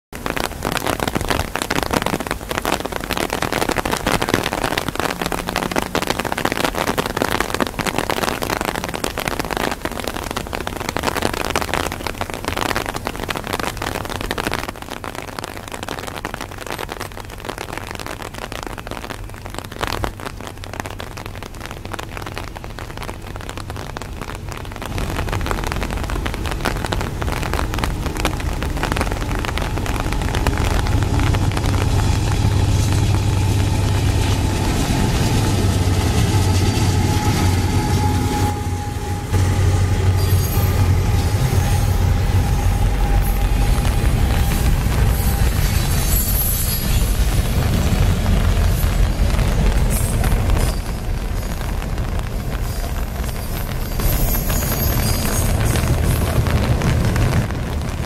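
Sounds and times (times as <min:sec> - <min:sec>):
rain on an umbrella: 0:00.1 - 0:58.0
freight train engine drone: 0:02.0 - 0:12.3, 0:21.6 - 0:58.0.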